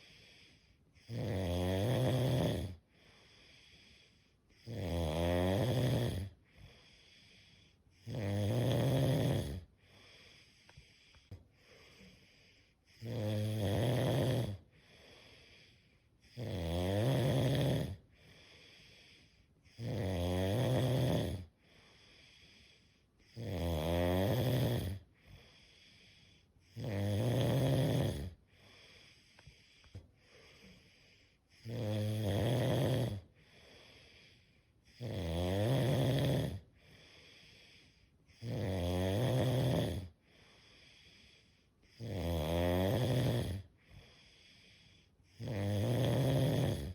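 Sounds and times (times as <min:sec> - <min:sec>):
quiet breathing: 0:00.0 - 0:04.8, 0:05.6 - 0:20.0, 0:20.6 - 0:23.5, 0:24.2 - 0:38.7, 0:39.4 - 0:42.1, 0:42.9 - 0:46.9
person snoring: 0:00.0 - 0:46.9.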